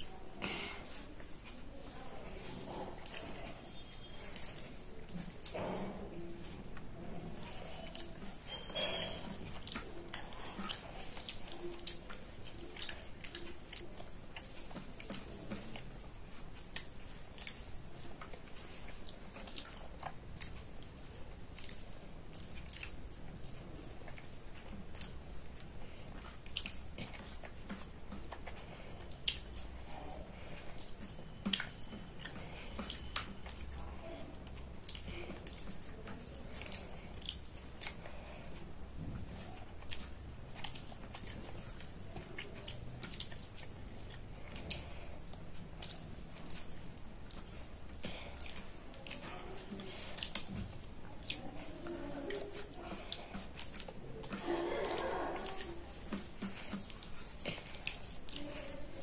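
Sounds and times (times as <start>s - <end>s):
child chewing and lip smacking: 0.0s - 59.0s.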